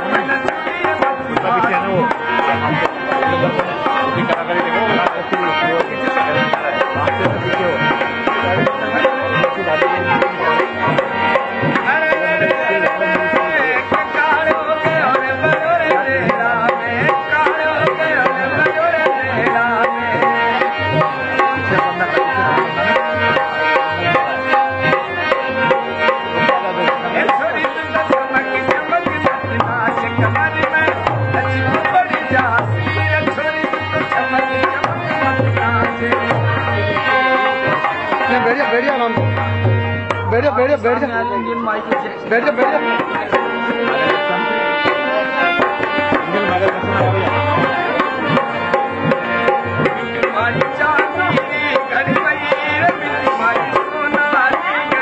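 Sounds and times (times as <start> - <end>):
folk music on drum and harmonium: 0.0 - 55.0.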